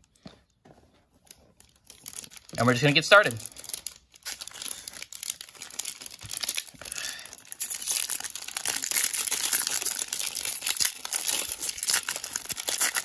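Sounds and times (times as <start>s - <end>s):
foil wrapper crinkling: 1.2s - 13.0s
wrapper tearing open: 1.6s - 13.0s.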